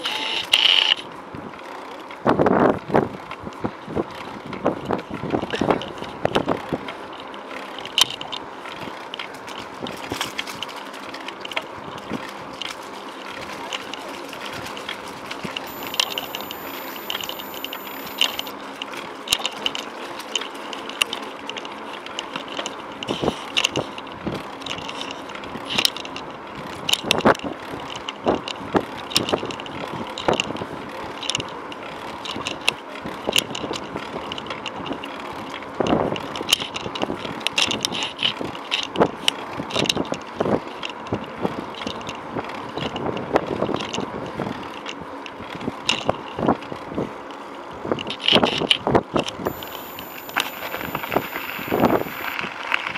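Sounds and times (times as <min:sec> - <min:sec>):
bicycle rattles and clicks: 0:00.0 - 0:52.9
bicycle tyres rolling on pavement: 0:00.6 - 0:15.6, 0:18.5 - 0:48.6, 0:52.2 - 0:52.9.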